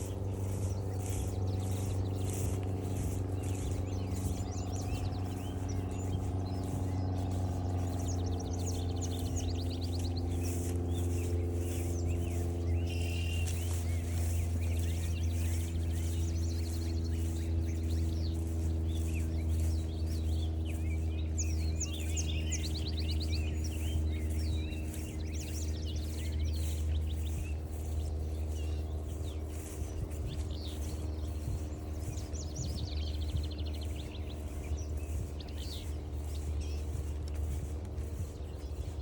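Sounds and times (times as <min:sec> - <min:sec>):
loud steady low hum: 0:00.0 - 0:39.0
songbirds singing and chirping: 0:00.0 - 0:39.0.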